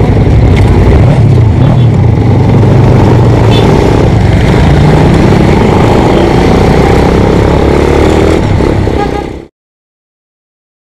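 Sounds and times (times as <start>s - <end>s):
motorcycle engine running: 0.0s - 9.5s
road noise rush: 0.0s - 9.5s.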